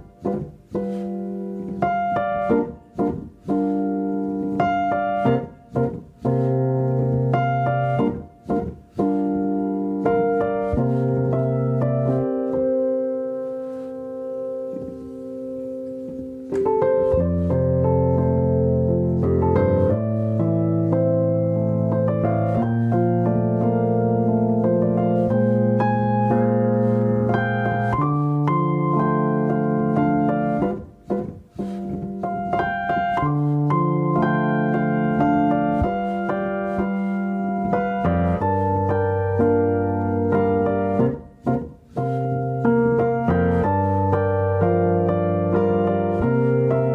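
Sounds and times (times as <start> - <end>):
slow piano chords: 0.0 - 46.9.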